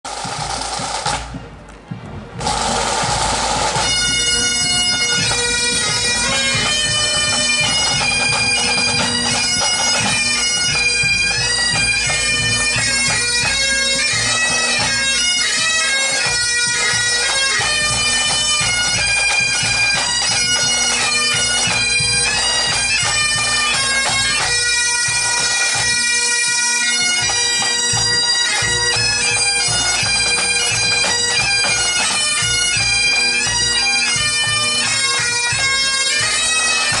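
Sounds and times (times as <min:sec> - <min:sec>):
bagpipes playing a march: 0:00.1 - 0:37.0
drums beating: 0:00.1 - 0:37.0.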